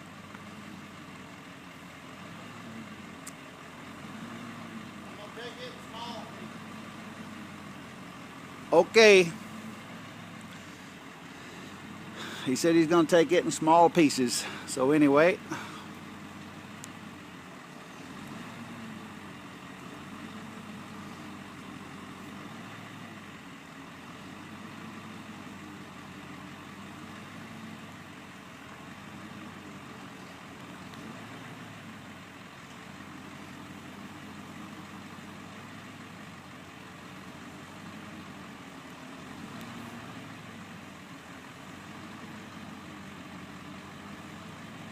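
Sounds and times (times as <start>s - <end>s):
truck engine idling: 0.0s - 44.9s.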